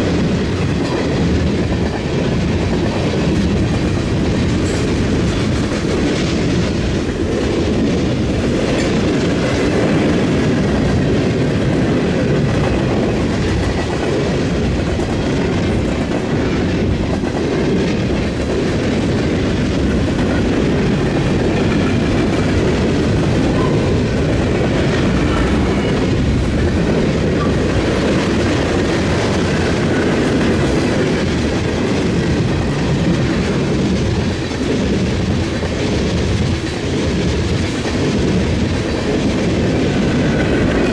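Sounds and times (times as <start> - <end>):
train wheels clattering: 0.0 - 40.9.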